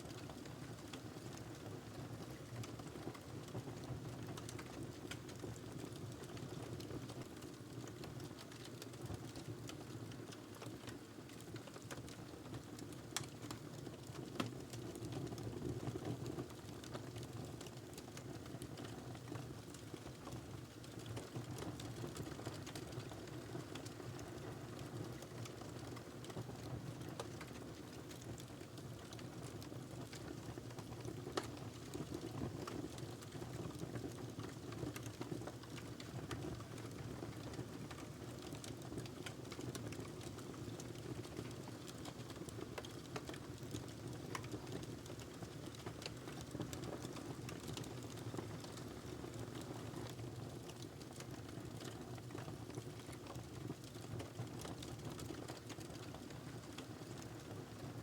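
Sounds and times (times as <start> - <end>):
wood fire crackling: 7.2 - 15.9, 16.5 - 26.4, 27.0 - 57.6.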